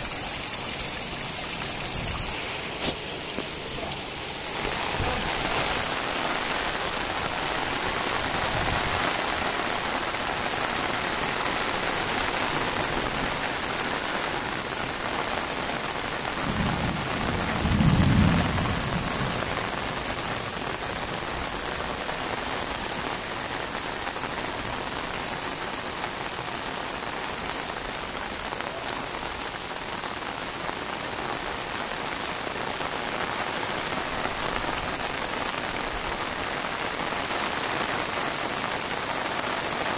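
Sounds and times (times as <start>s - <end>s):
heavy rain on concrete roof: 0.0s - 39.9s.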